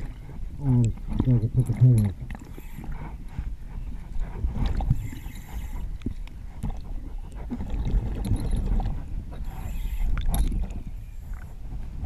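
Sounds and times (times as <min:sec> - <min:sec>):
water gurgling: 0:00.0 - 0:11.5
low underwater rumble: 0:00.0 - 0:12.0.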